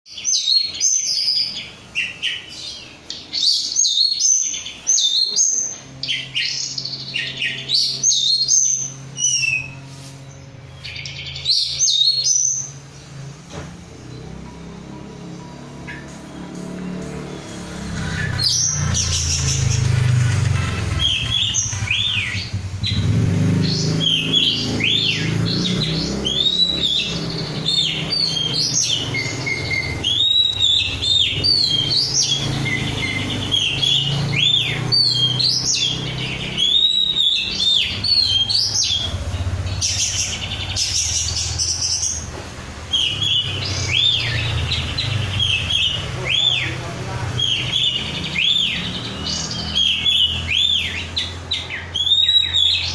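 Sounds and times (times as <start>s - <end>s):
bird singing whistled notes: 0.1s - 14.8s, 15.8s - 42.3s, 42.9s - 52.9s.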